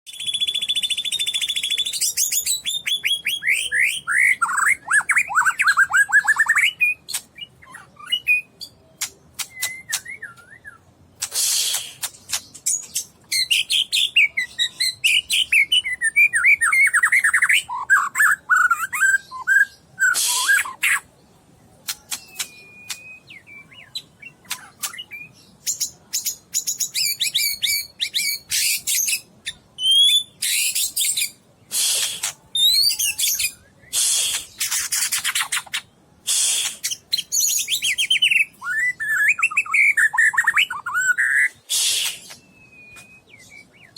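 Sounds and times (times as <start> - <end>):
bird singing varied song: 0.1 - 43.9.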